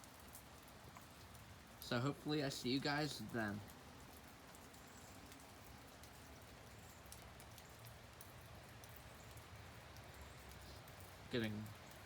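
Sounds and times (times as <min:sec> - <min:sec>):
light rain hissing: 0:00.0 - 0:12.0
raindrops ticking: 0:00.0 - 0:12.0.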